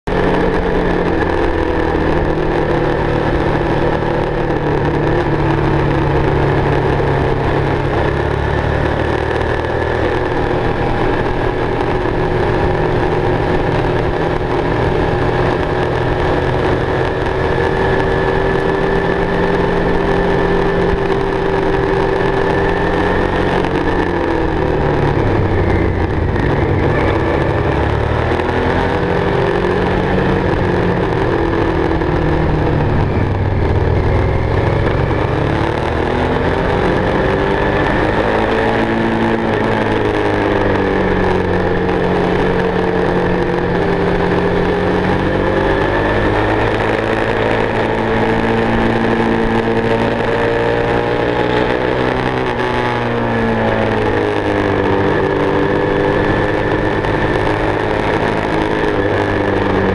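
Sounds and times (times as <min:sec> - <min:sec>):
motorcycle engine running: 0:00.0 - 0:59.9
road noise: 0:00.0 - 0:59.9
wind noise: 0:00.1 - 0:59.9.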